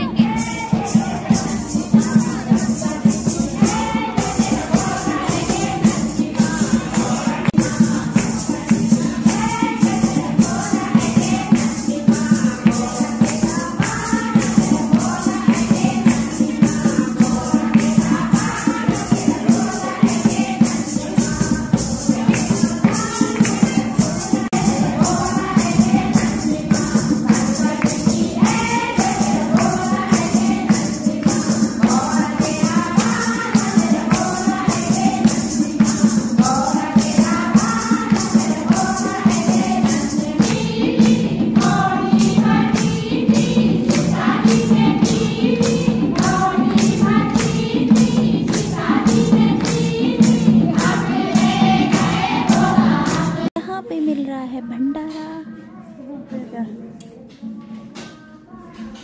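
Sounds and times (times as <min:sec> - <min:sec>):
hand drum: 0:00.0 - 0:53.5
jingling hand percussion: 0:00.0 - 0:53.6
women singing together: 0:00.0 - 0:58.0.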